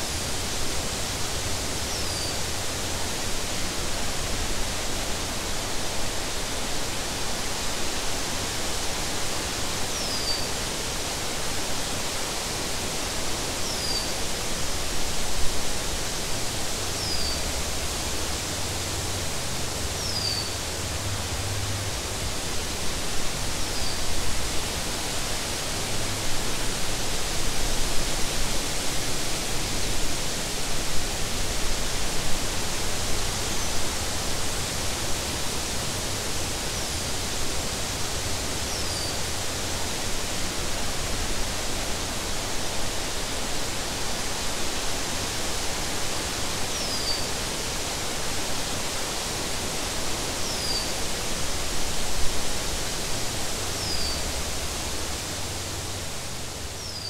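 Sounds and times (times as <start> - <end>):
wind through grass and leaves: 0.0 - 57.0.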